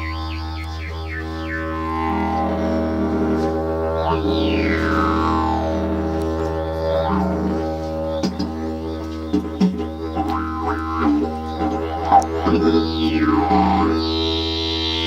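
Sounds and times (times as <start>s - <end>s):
didgeridoo low drone: 0.0s - 15.0s
sharp rhythmic didgeridoo accents: 0.0s - 15.0s.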